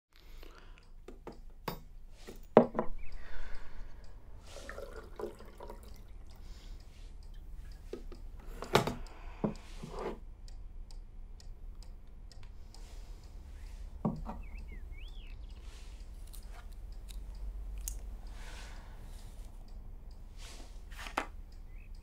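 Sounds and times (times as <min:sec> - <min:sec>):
low steady hum: 0:00.2 - 0:22.0.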